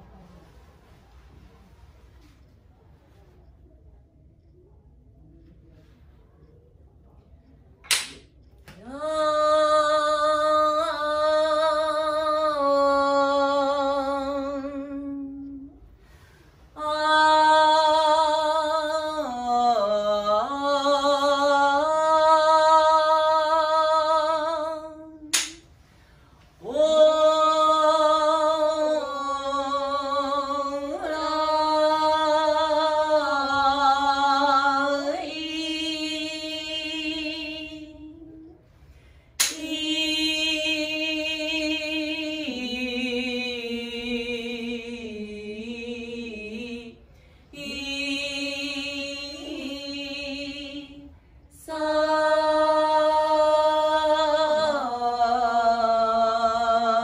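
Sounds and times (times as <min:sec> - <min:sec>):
woman singing unaccompanied: 0:08.8 - 0:15.9, 0:16.7 - 0:25.6, 0:26.6 - 0:38.6, 0:39.4 - 0:57.0.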